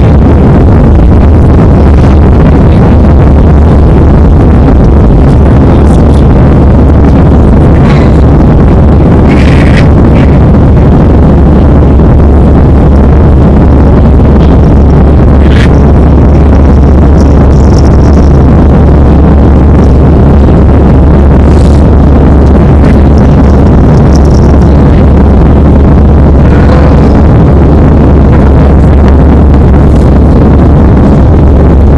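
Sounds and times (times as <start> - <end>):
jet cabin engine rumble: 0.0 - 31.9.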